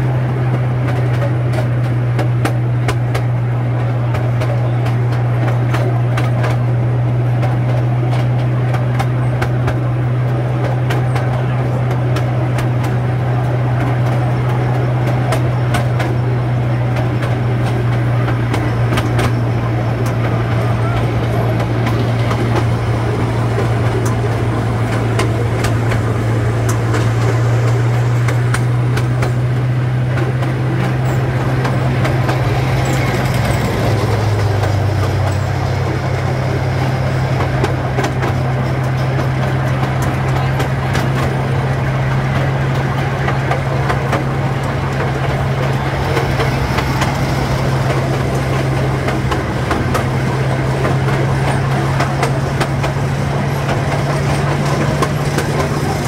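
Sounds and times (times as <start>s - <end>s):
train motor drone: 0.0s - 56.0s
wheels clicking and clacking: 0.0s - 56.0s.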